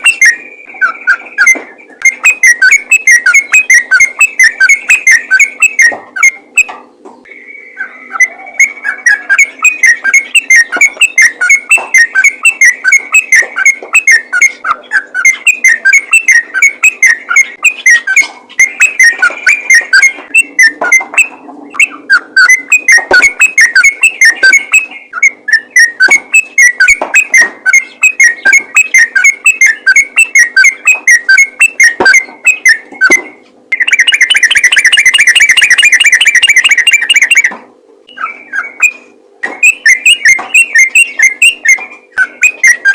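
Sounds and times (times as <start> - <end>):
bulbul singing bubbly whistles: 0.0 - 37.5, 38.1 - 42.9.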